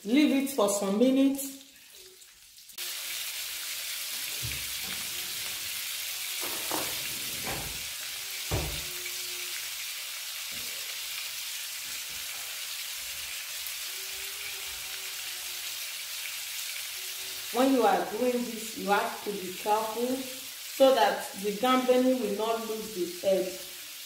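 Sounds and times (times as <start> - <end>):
prawns sizzling in a pan: 0.0 - 24.0.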